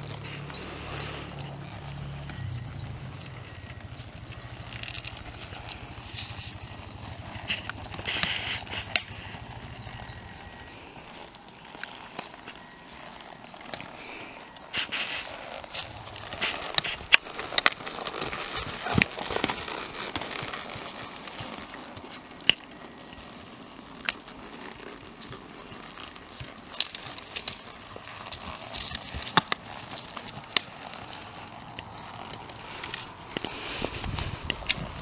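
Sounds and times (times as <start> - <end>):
horse hooves on dirt: 0.0 - 35.0
steady outdoor hiss: 0.0 - 35.0.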